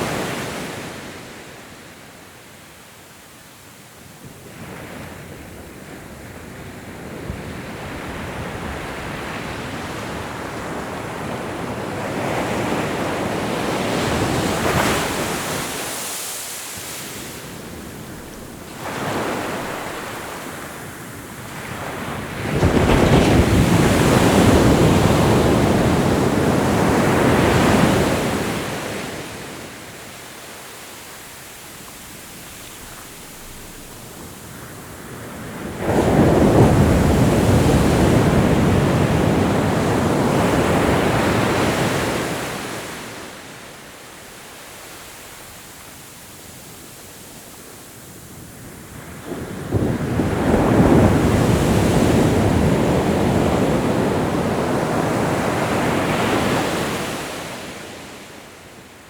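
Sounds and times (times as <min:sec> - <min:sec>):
ocean waves breaking on shore: 0:04.2 - 0:59.0.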